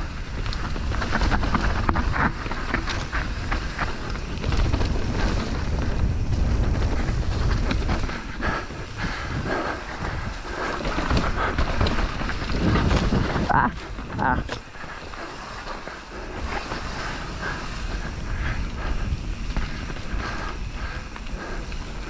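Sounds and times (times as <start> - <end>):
bike rattling and clicking: 0.0 - 22.0
bike tyre noise: 0.0 - 22.0
wind buffeting microphone: 0.0 - 22.0.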